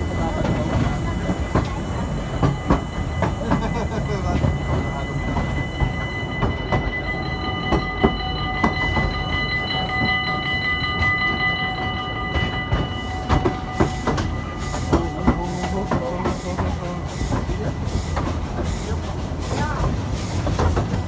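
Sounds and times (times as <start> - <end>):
high ringing tone: 0.0 - 18.2
carriages knocking and clattering: 0.0 - 21.0
train rumbling: 0.0 - 21.0.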